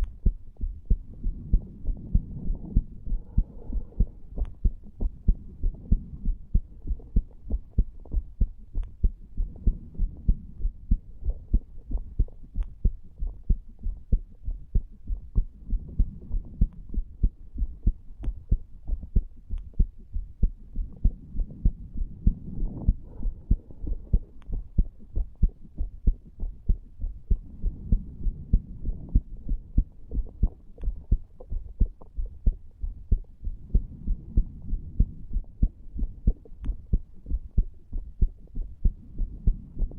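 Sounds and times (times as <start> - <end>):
heart beating in low thumps: 0.0 - 39.9.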